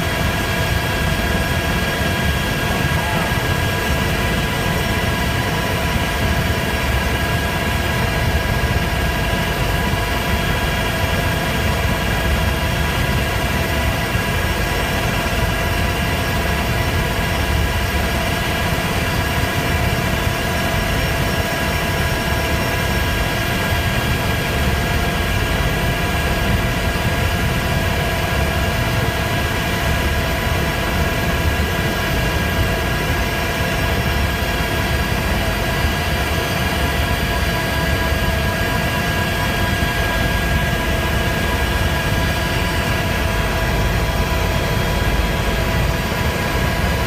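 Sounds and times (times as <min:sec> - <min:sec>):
helicopter engine whine: 0:00.0 - 0:47.0
low rotor rumble: 0:00.0 - 0:47.0.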